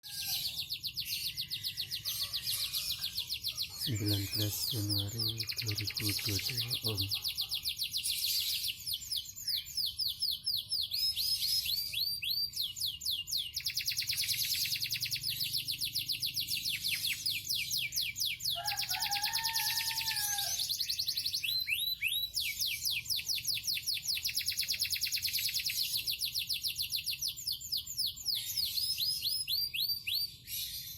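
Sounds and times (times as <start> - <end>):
canary singing trills: 0.0 - 30.9.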